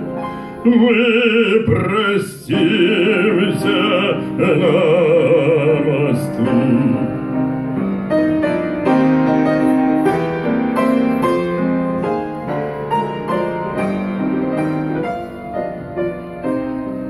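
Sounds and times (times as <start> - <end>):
grand piano melody: 0.0 - 17.0.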